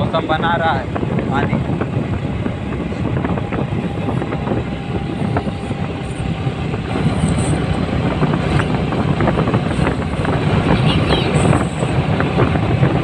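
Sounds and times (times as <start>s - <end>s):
wind and road noise: 0.0s - 13.0s
motorcycle engine running: 1.9s - 13.0s.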